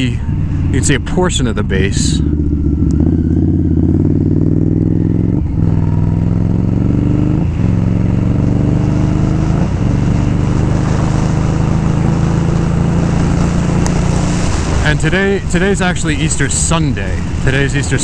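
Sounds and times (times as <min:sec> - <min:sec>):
motorcycle engine accelerating: 0:00.0 - 0:18.0
wind rushing over microphone: 0:00.0 - 0:18.0.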